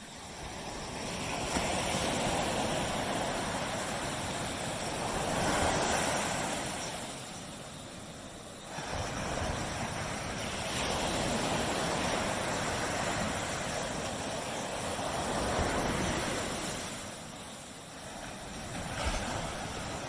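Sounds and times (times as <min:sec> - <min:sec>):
surf washing on beach: 0:00.0 - 0:20.0.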